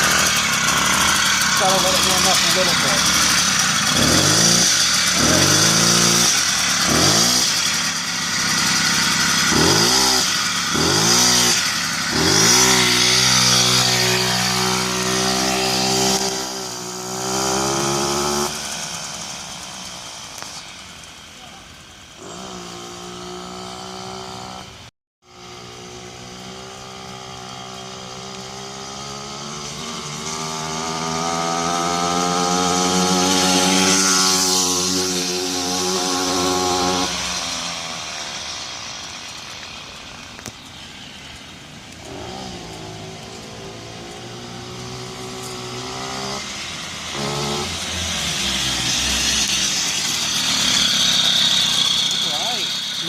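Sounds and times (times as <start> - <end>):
two-stroke moped engine running: 0.0 - 53.0.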